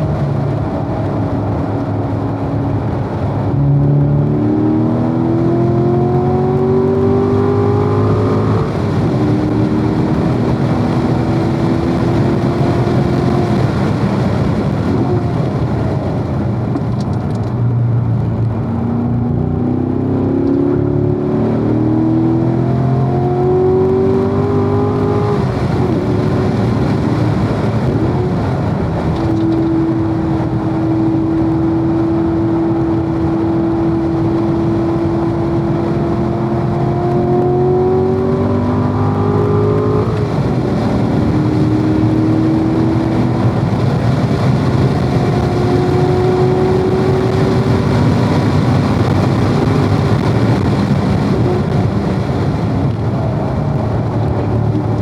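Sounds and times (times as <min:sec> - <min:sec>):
car engine accelerating: 0:00.0 - 0:55.0
wind and road noise: 0:00.0 - 0:55.0.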